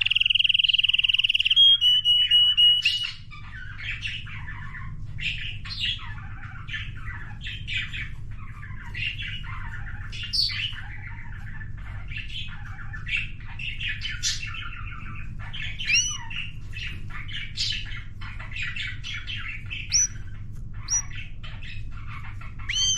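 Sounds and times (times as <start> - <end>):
canary singing trills: 0.0 - 22.9.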